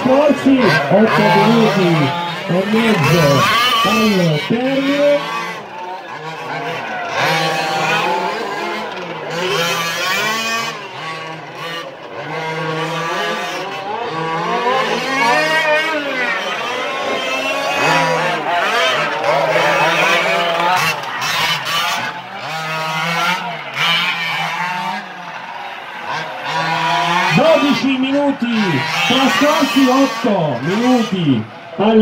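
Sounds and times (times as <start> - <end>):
small two-stroke engines buzzing: 0.0 - 32.0.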